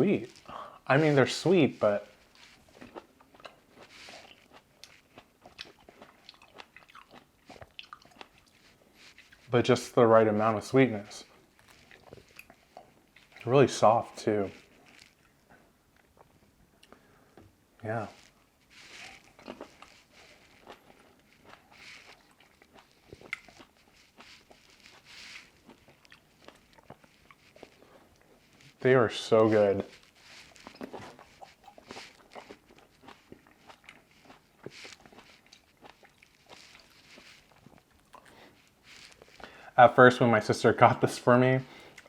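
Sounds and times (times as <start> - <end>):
person chewing a grape: 0.0 - 39.8, 40.8 - 42.0.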